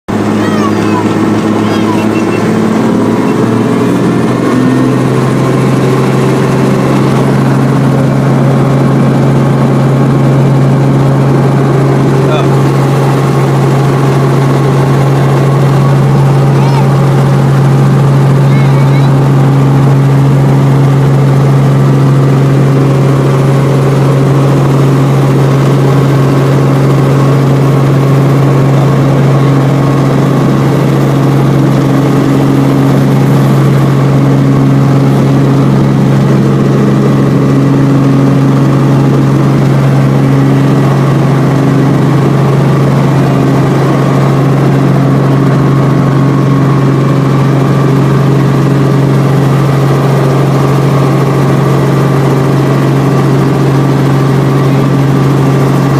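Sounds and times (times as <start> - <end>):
helicopter engine and rotors: 0.1 - 55.9.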